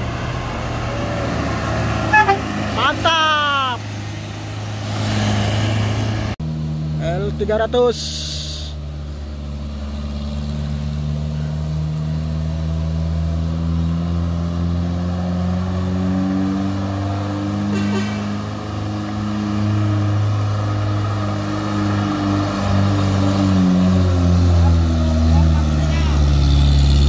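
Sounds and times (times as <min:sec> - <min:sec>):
pickup engine labouring uphill: 0:00.0 - 0:27.0.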